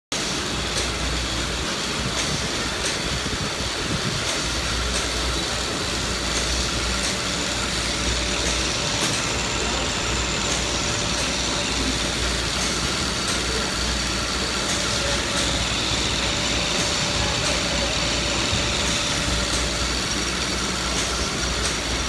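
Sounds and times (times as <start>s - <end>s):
machine whirring: 0.2s - 22.0s.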